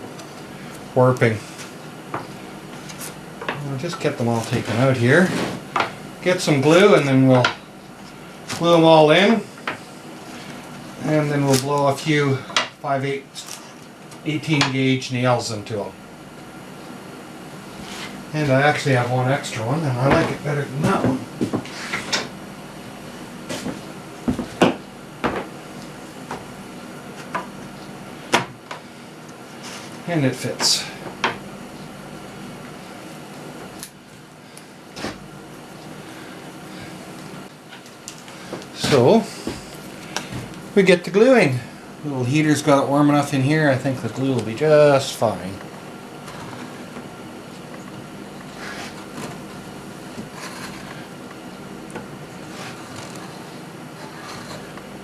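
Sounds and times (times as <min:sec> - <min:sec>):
space heater fan humming: 0:00.0 - 0:55.0.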